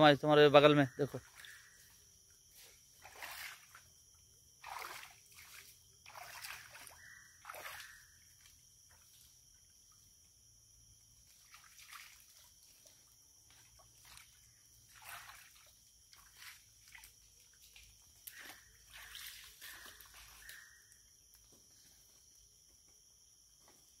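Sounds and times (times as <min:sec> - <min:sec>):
sloshes and splashes in water: 0:01.0 - 0:21.0.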